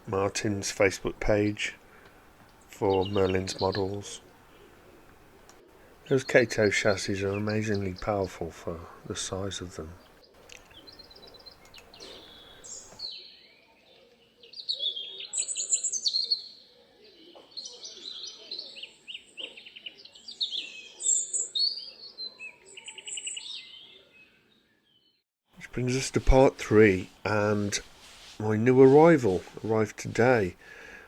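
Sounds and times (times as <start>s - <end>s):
songbirds chirping and singing: 0.0s - 25.2s.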